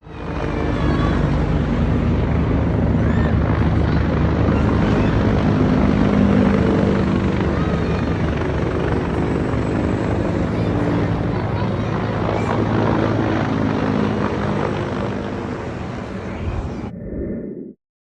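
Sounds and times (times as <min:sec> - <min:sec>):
helicopter flying: 0:00.0 - 0:17.7.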